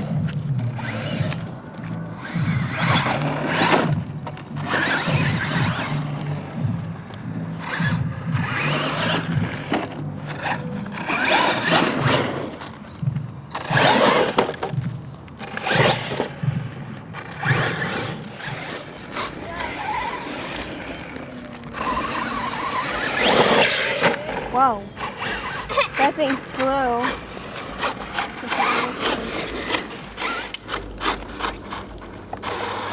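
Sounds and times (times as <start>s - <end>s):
rc truck motor surging: 0.0s - 32.9s.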